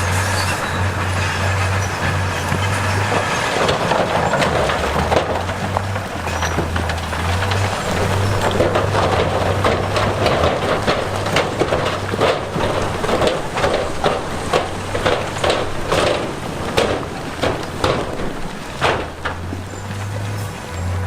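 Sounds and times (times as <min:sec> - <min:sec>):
heavy diesel engine running: 0:00.0 - 0:21.0
rocks clattering and tumbling: 0:00.0 - 0:21.0.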